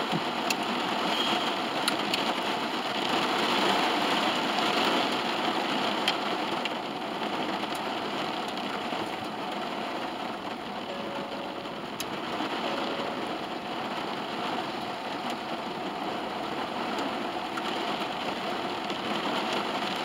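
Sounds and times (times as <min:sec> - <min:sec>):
rain on car roof: 0:00.0 - 0:20.0.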